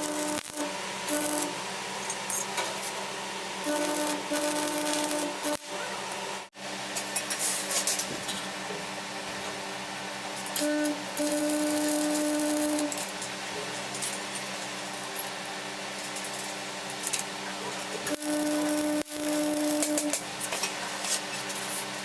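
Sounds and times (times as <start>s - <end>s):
steady hum: 0.0s - 7.3s, 8.2s - 13.8s, 15.6s - 20.5s.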